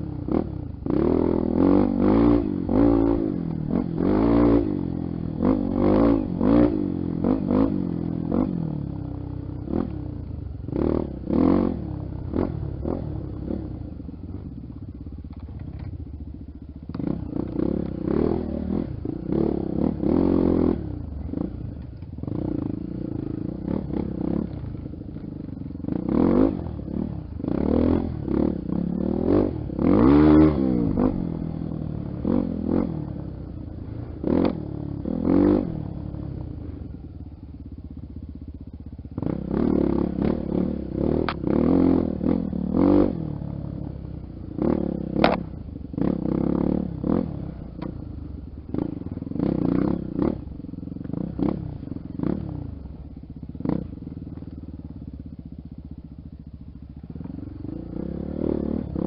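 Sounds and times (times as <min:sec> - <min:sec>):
motorbike engine revving: 0:00.0 - 0:09.0, 0:10.7 - 0:14.6, 0:16.9 - 0:37.0, 0:39.1 - 0:55.2, 0:56.8 - 0:59.0.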